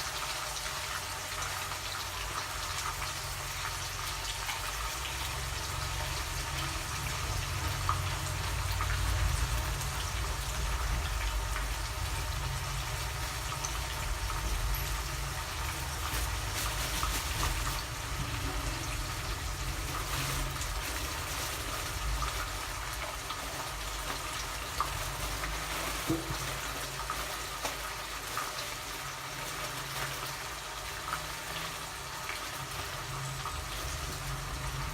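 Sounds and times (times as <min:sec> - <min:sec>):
fish frying in hot oil: 0:00.0 - 0:34.9.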